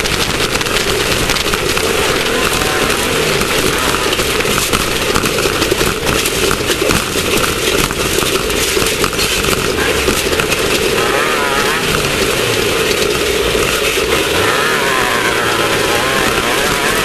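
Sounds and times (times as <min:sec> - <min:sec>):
car rattling over rough ground: 0:00.0 - 0:17.0
race car engine running hard: 0:00.0 - 0:17.0.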